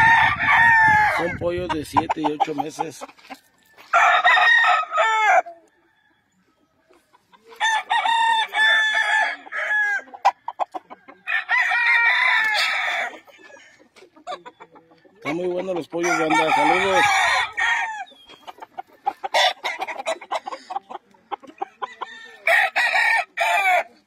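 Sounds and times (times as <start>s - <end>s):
roosters crowing: 0.0s - 6.6s, 7.4s - 14.4s, 15.2s - 20.7s, 21.5s - 24.0s.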